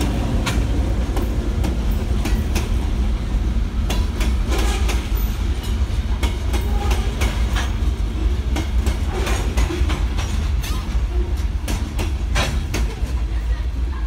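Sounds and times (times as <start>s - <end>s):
train wheels clicking over rail joints: 0.0s - 13.5s
low train rumble: 0.0s - 14.0s.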